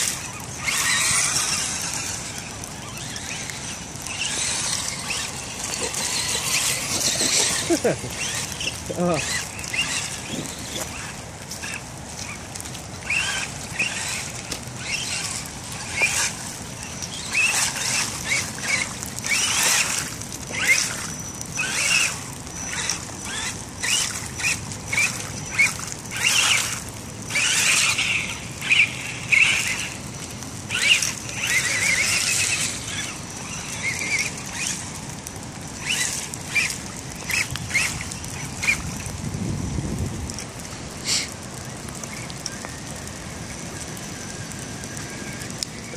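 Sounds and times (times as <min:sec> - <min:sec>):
electric motor and gears whining: 0:00.0 - 0:45.9
tyres churning through mud: 0:00.0 - 0:45.9.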